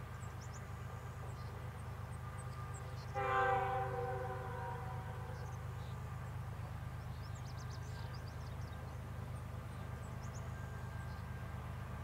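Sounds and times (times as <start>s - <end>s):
distant diesel locomotives rumbling: 0.0s - 12.0s.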